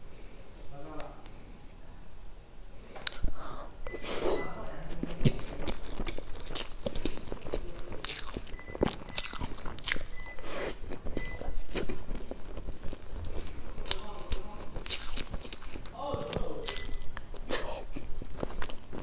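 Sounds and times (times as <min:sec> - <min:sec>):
chewing and mouth sounds: 0:03.0 - 0:19.0.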